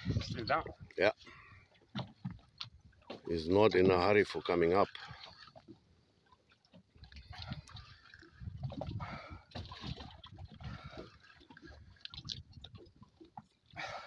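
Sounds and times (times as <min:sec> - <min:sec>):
water lapping against a boat: 0:00.0 - 0:14.0.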